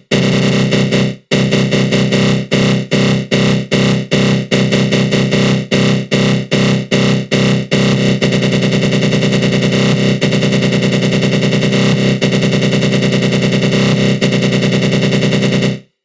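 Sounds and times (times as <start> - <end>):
pulsing buzzy synth growl: 0.1 - 15.7.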